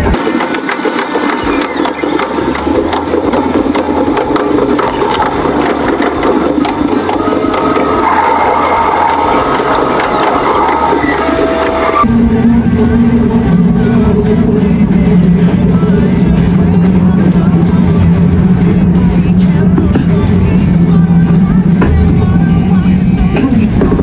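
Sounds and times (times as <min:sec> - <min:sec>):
background music: 0:00.0 - 0:24.0
train motor whine: 0:00.0 - 0:24.0
train rattling and clattering: 0:00.0 - 0:24.0.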